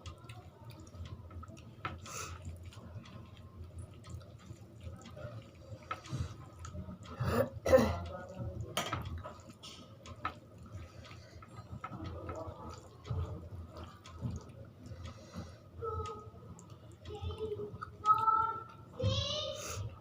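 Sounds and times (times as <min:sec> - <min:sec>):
wet chewing: 0:00.0 - 0:17.1.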